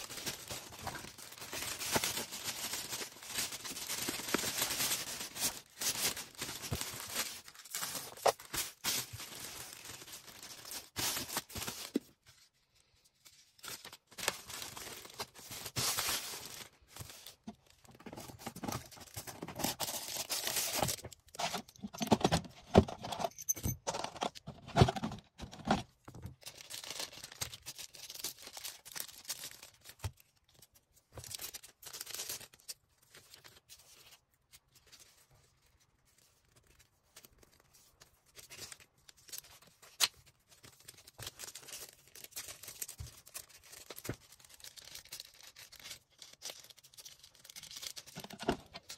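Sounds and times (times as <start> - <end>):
plastic packaging crinkling: 0.0 - 12.2, 13.5 - 23.1, 24.7 - 34.0, 36.6 - 48.9.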